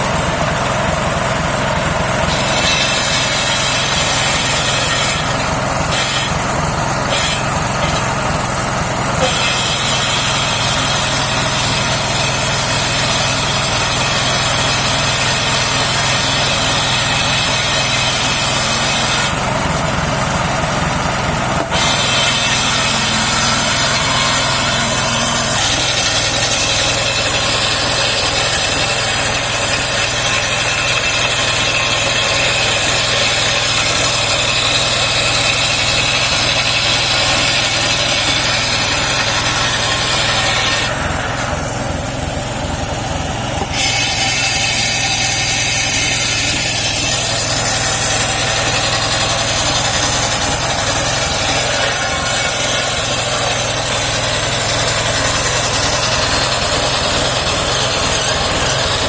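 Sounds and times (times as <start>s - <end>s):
saw blade whine: 0.0s - 59.0s
sawmill engine running: 0.0s - 59.0s.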